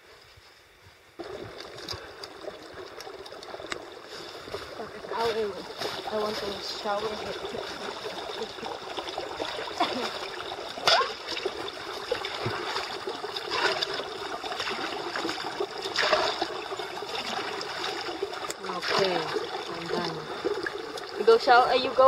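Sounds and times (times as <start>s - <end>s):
creek trickling: 1.2s - 22.0s
water poured into metal pot: 1.2s - 22.0s
water splashes: 1.2s - 22.0s.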